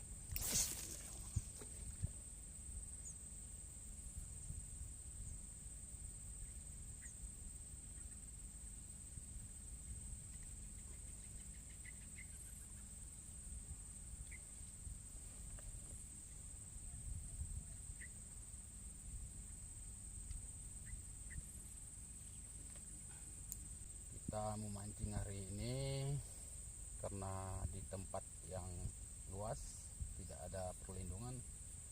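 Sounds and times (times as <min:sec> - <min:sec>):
insect drone: 0:00.0 - 0:31.9.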